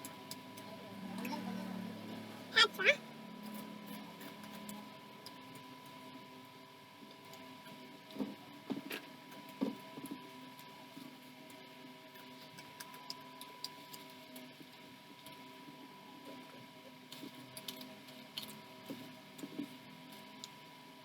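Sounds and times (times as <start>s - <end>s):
electrical hum with high whine: 0.0s - 21.0s.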